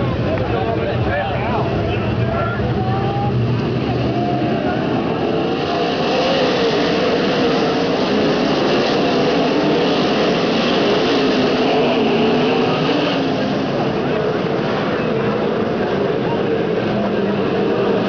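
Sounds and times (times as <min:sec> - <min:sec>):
racing car engines roaring: 0:00.0 - 0:18.0.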